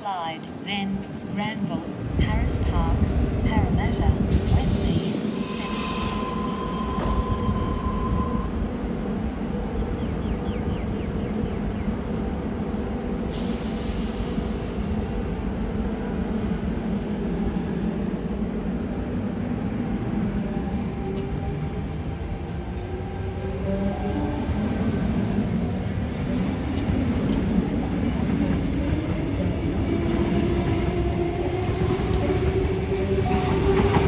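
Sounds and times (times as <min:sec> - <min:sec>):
train running rumble: 0:00.2 - 0:34.0.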